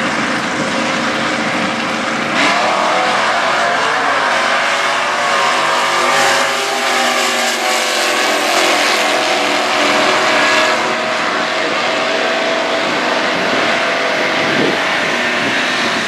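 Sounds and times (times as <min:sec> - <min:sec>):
drag cars accelerating at full throttle: 0:00.0 - 0:16.0.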